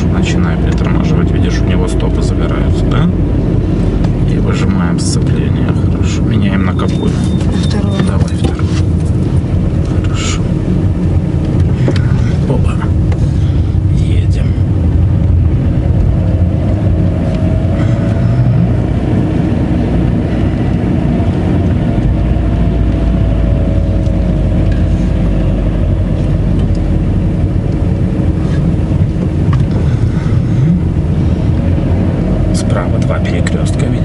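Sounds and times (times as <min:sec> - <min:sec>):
car interior engine and road rumble: 0:00.0 - 0:34.0
faint engine whine: 0:00.0 - 0:34.0.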